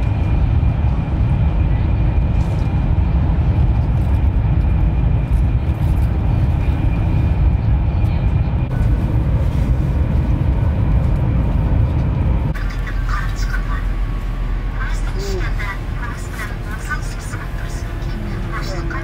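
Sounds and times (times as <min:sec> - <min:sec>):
vehicle running rumble: 0:00.0 - 0:19.0.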